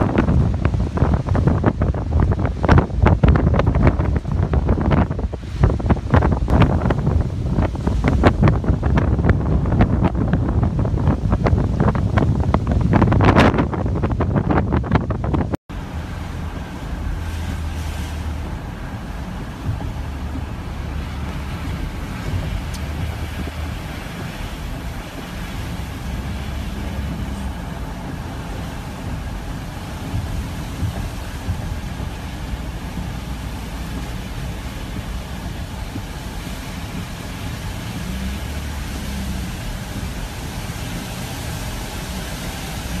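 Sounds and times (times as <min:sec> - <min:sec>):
car engine and tyre rumble: 0:00.0 - 0:43.0
wind and rain hissing on car: 0:00.0 - 0:43.0.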